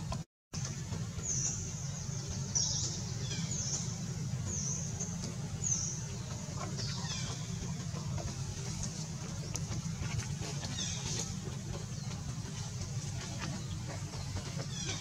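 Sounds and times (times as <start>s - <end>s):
steady low hum: 0.0s - 15.0s
bird chirping: 1.2s - 15.0s.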